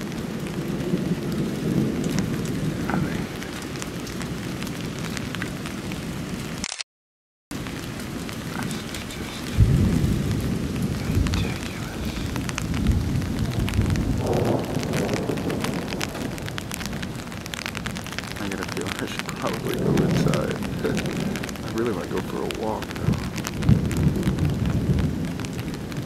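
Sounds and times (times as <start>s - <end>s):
thunder clap and rumble: 0.0s - 6.5s, 7.6s - 26.0s
steady rain: 0.0s - 6.8s, 7.5s - 26.0s.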